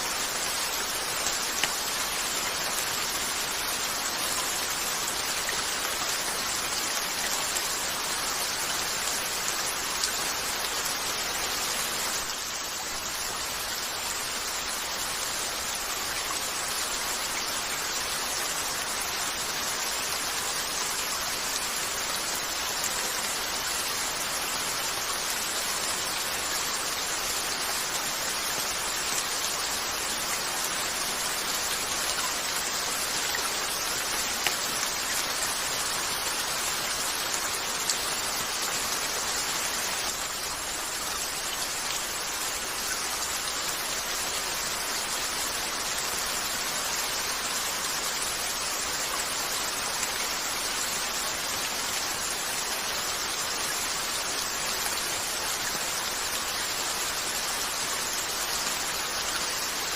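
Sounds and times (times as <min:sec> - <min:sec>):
rain falling on a window: 0:00.0 - 0:59.9.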